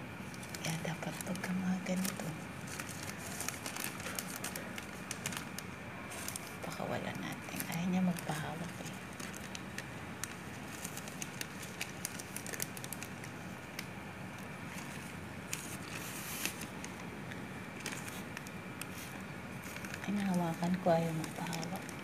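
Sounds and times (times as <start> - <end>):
steady low hum: 0.0 - 22.0
plastic wrapper crinkling: 0.2 - 22.0.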